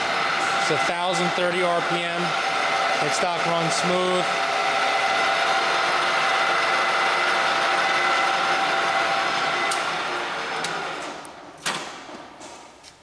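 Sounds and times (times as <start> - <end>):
lathe humming: 0.0 - 11.6.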